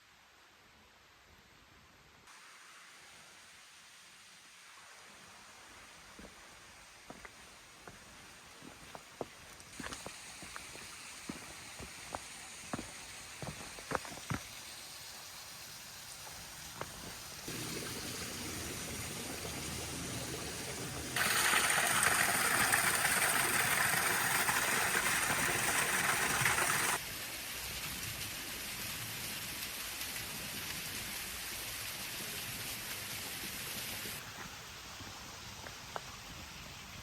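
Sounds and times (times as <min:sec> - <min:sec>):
falling water hiss: 0:02.2 - 0:37.0.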